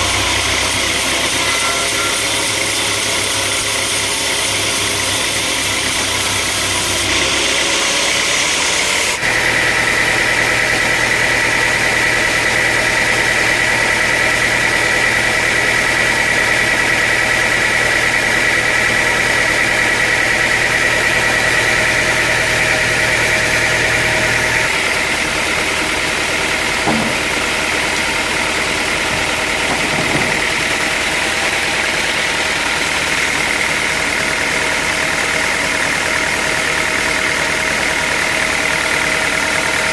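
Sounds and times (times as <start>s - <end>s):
high machine whine: 0.0s - 39.9s
sawmill machinery running: 0.0s - 39.9s.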